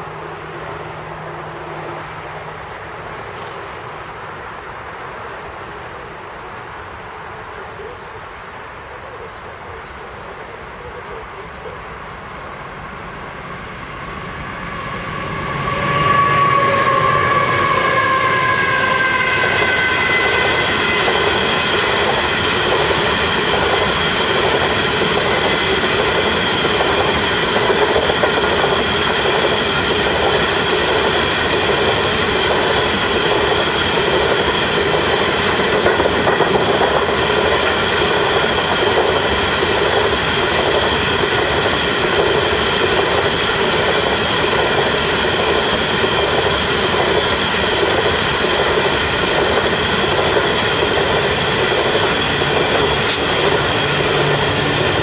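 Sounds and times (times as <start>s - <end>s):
train wheels on rails: 0.0s - 6.1s, 12.2s - 55.0s.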